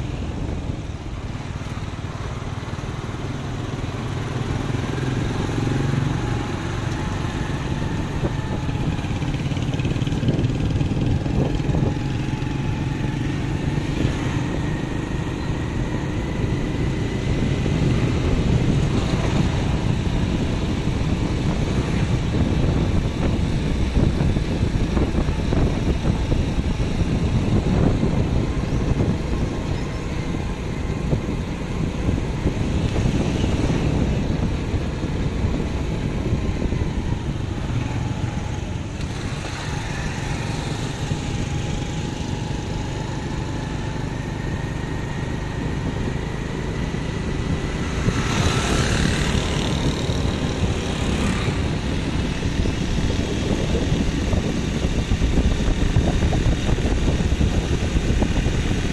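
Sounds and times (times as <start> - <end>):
vehicle rumbling along street: 0.0 - 58.9.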